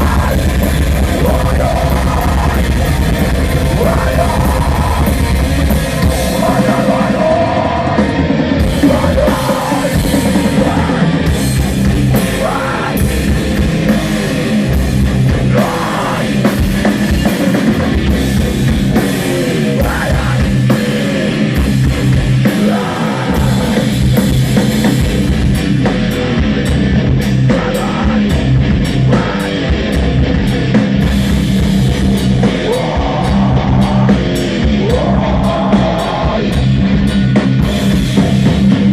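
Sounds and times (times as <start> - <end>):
pounding drum kit: 0.0 - 38.9
rock band playing: 0.0 - 38.9.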